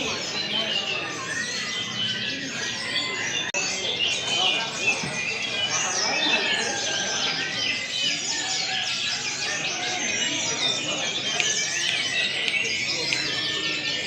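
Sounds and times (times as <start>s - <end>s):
songbirds chorus chirping and trilling: 0.0s - 14.0s.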